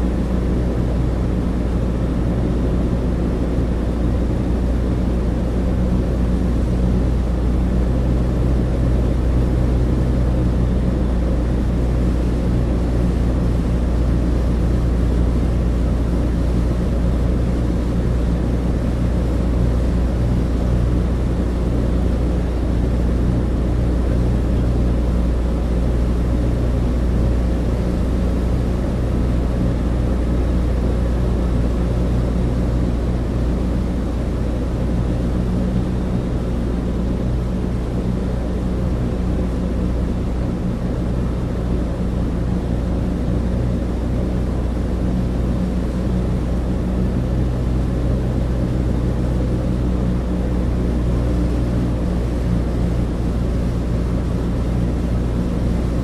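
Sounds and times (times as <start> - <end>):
propeller engines droning: 0.0 - 56.0.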